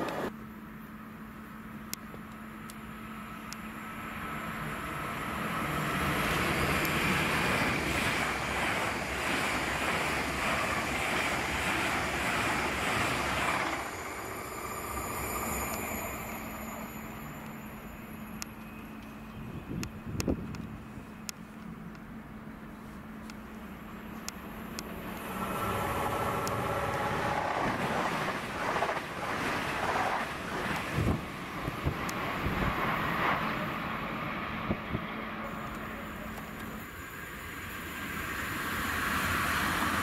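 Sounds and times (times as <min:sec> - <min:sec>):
train wheels rushing on rail: 0:02.7 - 0:21.8, 0:23.0 - 0:40.0.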